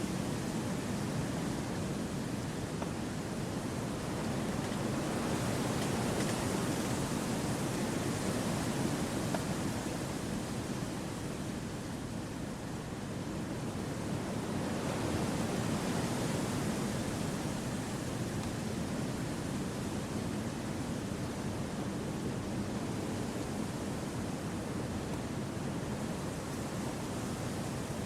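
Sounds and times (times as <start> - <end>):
wind through forest trees: 0.0 - 28.0.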